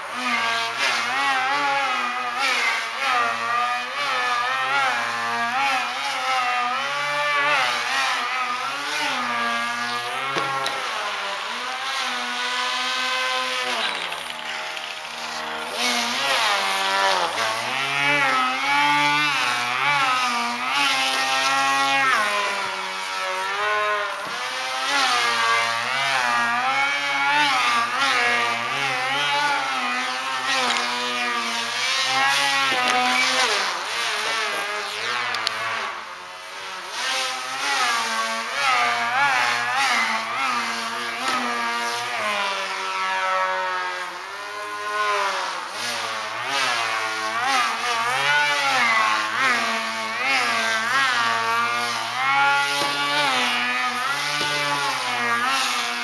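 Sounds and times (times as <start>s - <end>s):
model plane motor whining: 0.0s - 56.0s.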